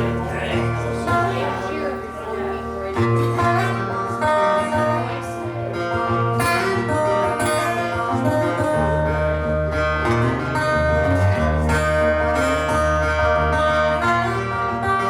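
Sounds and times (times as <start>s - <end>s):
live blues band: 0.0s - 15.0s
low bass notes: 0.0s - 15.0s.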